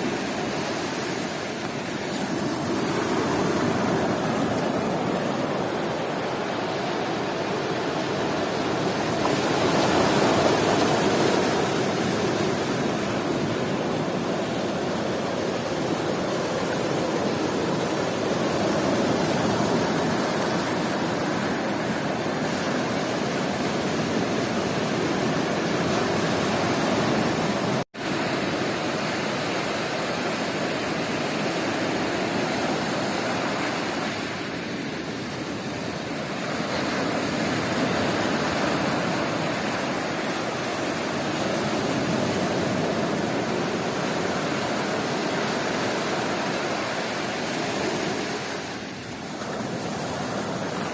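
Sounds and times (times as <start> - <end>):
sea surf washing onto beach: 0.0 - 50.9.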